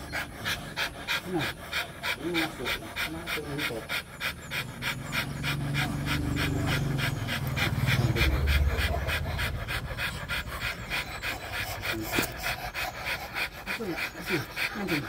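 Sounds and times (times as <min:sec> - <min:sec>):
dogs panting fast: 0:00.0 - 0:15.0.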